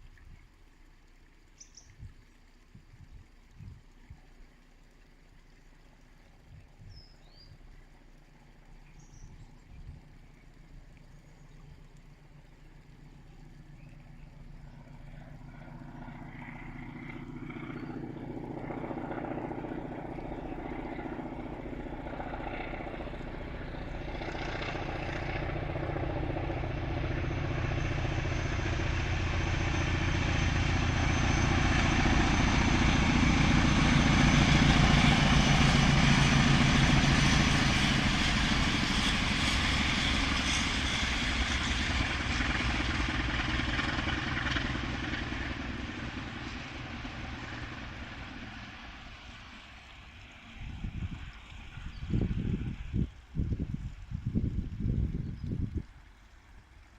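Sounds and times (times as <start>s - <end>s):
diesel locomotive engine roaring: 8.2s - 54.9s.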